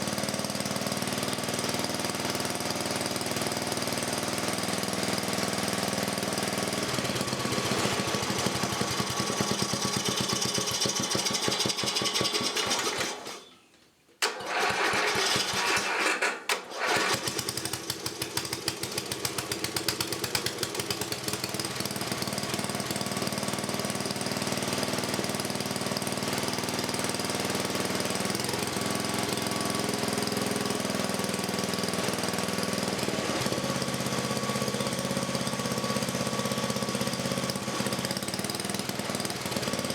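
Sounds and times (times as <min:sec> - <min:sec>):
small engine running: 0:00.0 - 0:13.4, 0:14.4 - 0:39.9.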